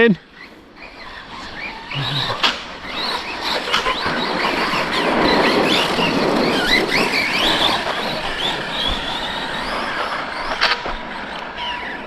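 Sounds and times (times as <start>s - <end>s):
tyres rushing on dirt: 0.2s - 12.0s.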